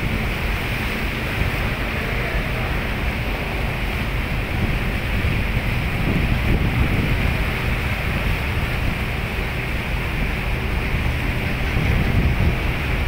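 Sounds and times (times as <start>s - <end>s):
ship engine drone: 0.0s - 13.0s
wind rushing on microphone: 0.0s - 13.0s.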